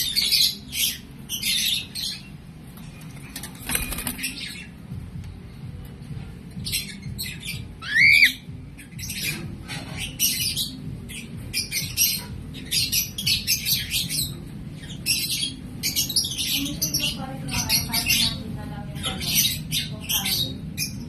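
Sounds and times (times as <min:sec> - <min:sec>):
lovebirds squawking and chirping: 0:00.0 - 0:05.3, 0:06.0 - 0:21.0.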